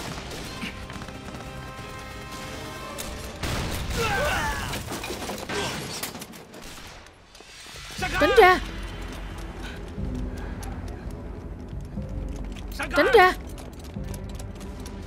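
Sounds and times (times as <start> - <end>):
tense film score: 0.0 - 15.0.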